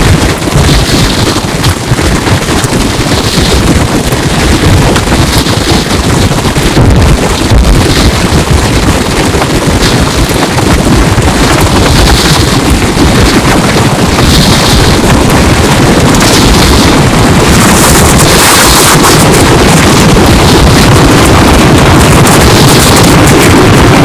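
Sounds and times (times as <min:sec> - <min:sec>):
strong wind blasting microphone: 0:00.0 - 0:24.0.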